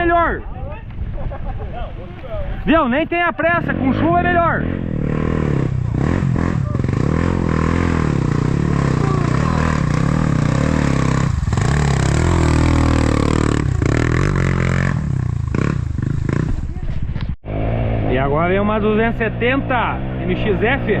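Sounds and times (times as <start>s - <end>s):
motorcycle engine revving: 3.4s - 21.0s.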